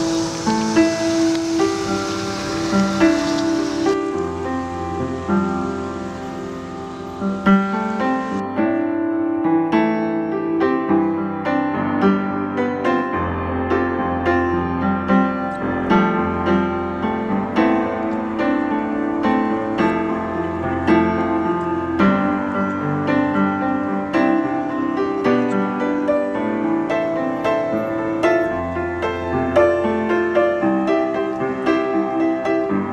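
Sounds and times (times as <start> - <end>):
piano music: 0.0 - 32.9.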